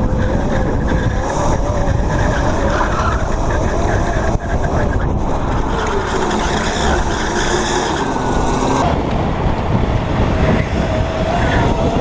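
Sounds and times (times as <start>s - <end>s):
electric kart motor whining: 0.0s - 12.0s
road noise: 0.0s - 12.0s
wind noise: 0.0s - 12.0s.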